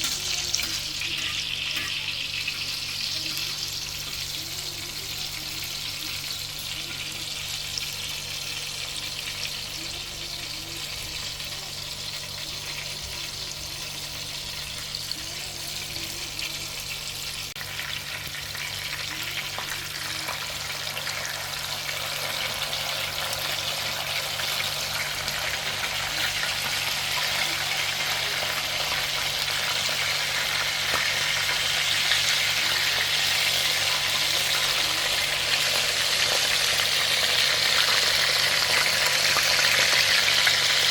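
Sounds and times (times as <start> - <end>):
kebabs sizzling in oil: 0.0 - 40.9.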